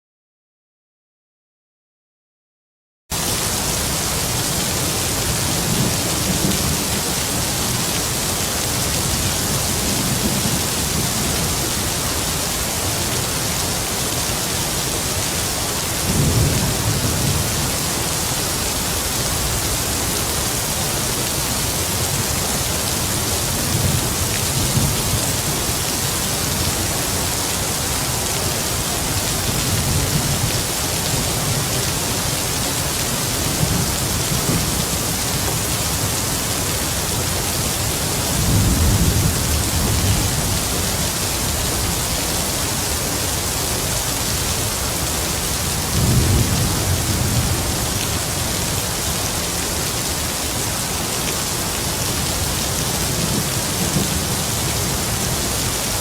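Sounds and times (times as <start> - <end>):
heavy rain hiss: 3.2 - 56.0.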